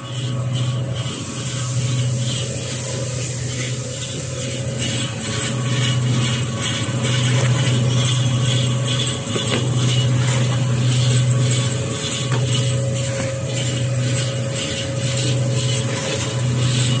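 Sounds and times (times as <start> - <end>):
cutting machine hum: 0.0 - 17.0.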